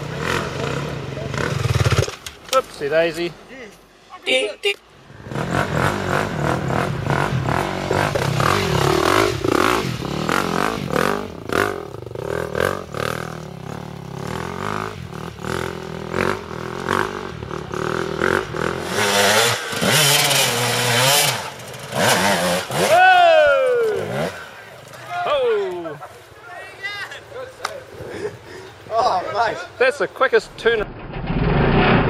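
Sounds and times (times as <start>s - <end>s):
dirt bike engines revving: 0.0s - 30.9s.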